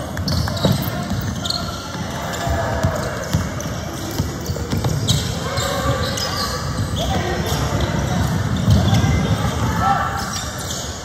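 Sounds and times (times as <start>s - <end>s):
basketball bouncing on wooden court: 0.0s - 9.7s
indoor hall background noise: 0.0s - 11.0s.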